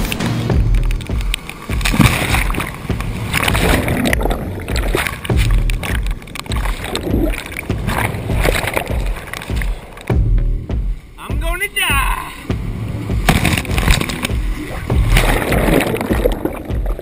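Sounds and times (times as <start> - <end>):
whitewater rushing and splashing: 0.0 - 10.2, 10.9 - 17.0
low thuds: 0.0 - 17.0.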